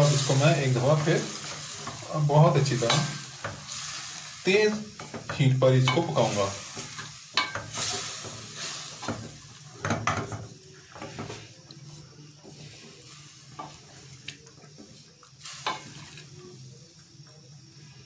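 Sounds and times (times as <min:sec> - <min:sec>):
faint sizzle of curry cooking: 0:00.0 - 0:18.0.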